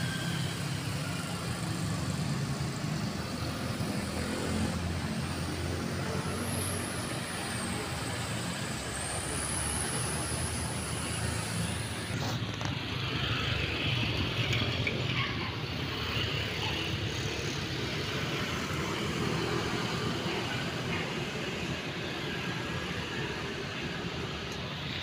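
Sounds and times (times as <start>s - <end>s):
motorcycle engines passing: 0.0s - 25.0s
road noise rumble: 0.0s - 25.0s.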